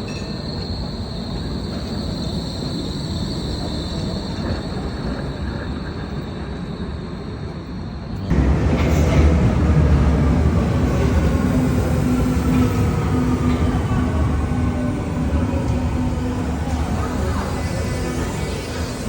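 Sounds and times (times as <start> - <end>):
rail vehicle rumbling: 0.0 - 19.0.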